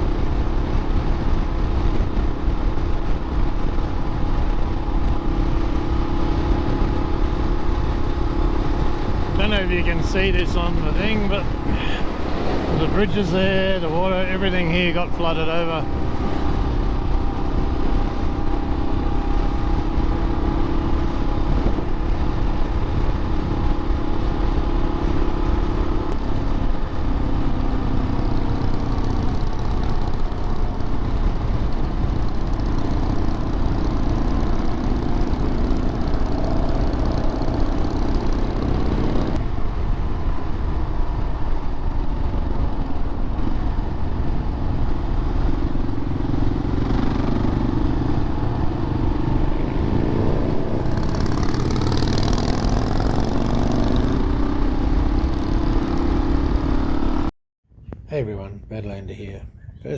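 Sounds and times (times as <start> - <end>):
motorcycle engine running: 0.0 - 57.3
road rumble: 0.0 - 59.9
wind: 0.0 - 59.9.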